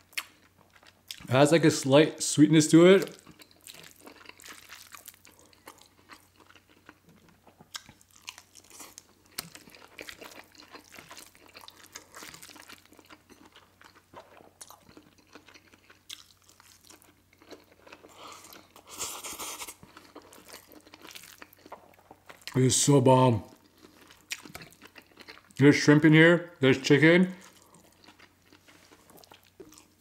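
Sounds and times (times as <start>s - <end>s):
chewing and mouth smacking: 0.1s - 1.3s, 3.0s - 22.6s, 23.5s - 25.6s, 27.4s - 30.0s.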